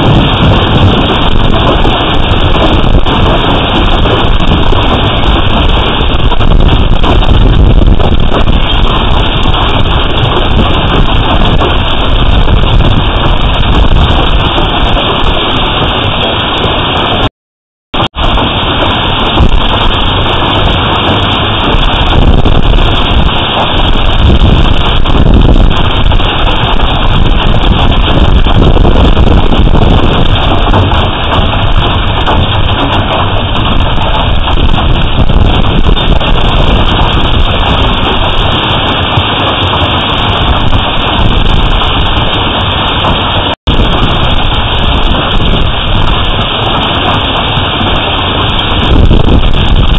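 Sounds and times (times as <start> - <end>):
hail and rain pelting: 0.0 - 17.3, 18.0 - 49.9
wind buffeting microphone: 0.0 - 17.3, 18.0 - 49.9.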